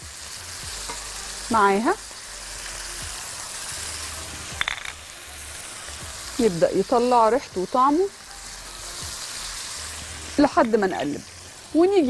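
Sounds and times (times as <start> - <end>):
beef sizzling in a pan: 0.0 - 12.0.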